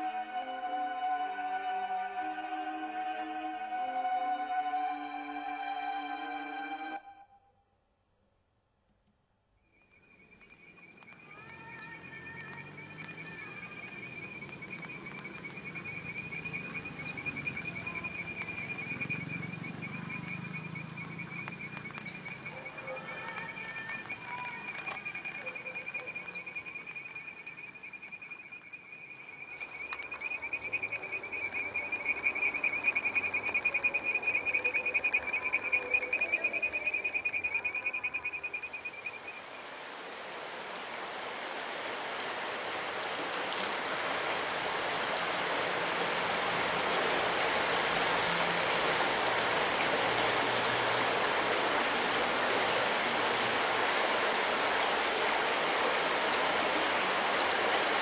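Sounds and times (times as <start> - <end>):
stream flowing over rocks: 10.7 - 28.5, 29.1 - 58.0.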